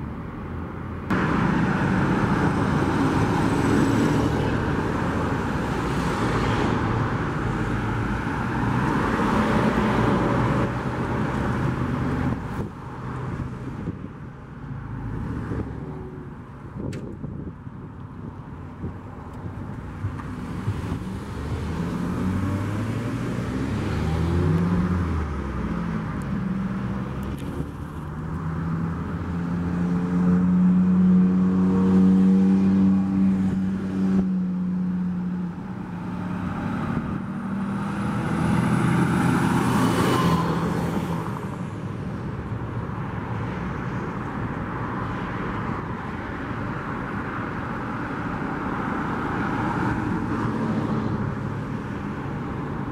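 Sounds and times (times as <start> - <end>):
trucks and cars passing: 0.0 - 52.9.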